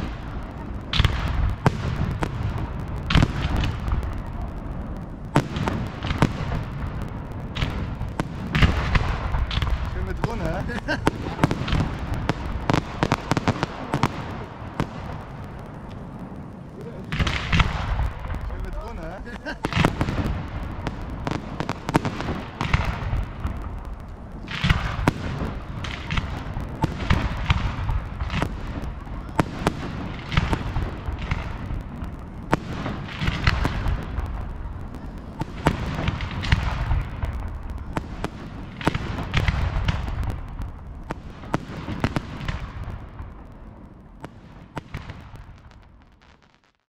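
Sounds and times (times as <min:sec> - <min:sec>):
deep firework booms: 0:00.0 - 0:46.8
fireworks bangs and crackling: 0:00.0 - 0:46.9.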